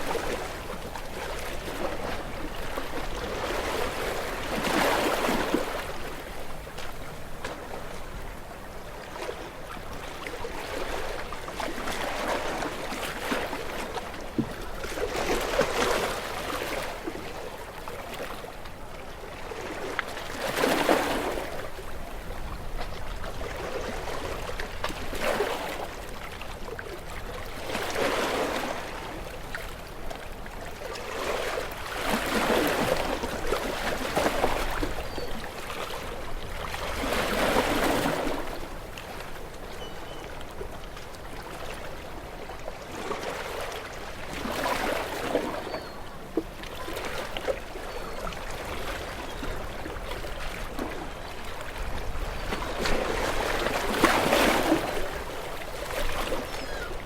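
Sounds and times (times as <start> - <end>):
ocean waves breaking: 0.0 - 18.6, 19.2 - 26.7, 27.5 - 30.2, 31.0 - 57.0.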